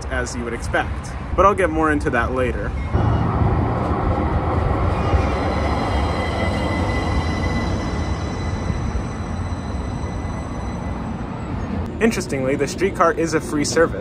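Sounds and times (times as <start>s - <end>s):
tram rumbling on rails: 2.2s - 14.0s
faint high whine: 2.6s - 14.0s.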